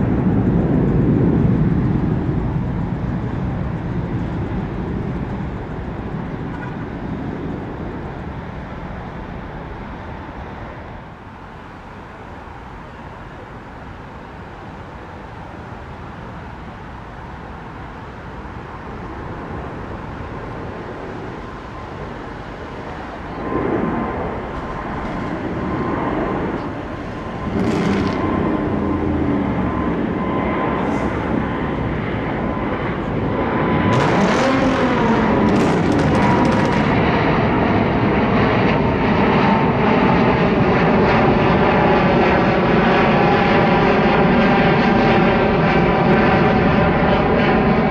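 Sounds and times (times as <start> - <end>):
jet engine rumble: 0.0 - 47.9
jet engine whine: 0.0 - 47.9.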